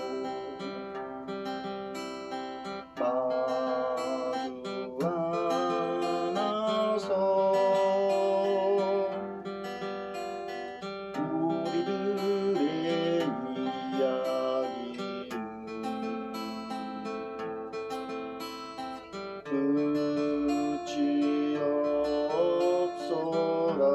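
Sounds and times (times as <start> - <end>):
person singing slow lines: 0.0 - 9.4, 11.1 - 18.1, 18.8 - 23.9
strummed acoustic guitar: 0.0 - 23.9.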